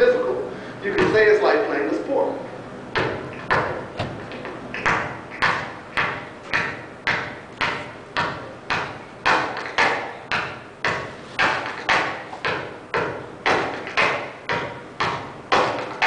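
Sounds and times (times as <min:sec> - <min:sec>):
basketball bouncing in hall: 0:00.9 - 0:01.4, 0:02.8 - 0:16.0.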